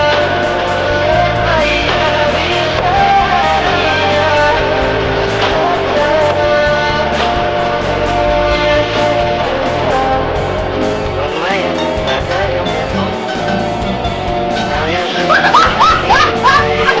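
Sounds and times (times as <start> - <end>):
rock song with guitar and drums: 0.0 - 17.0.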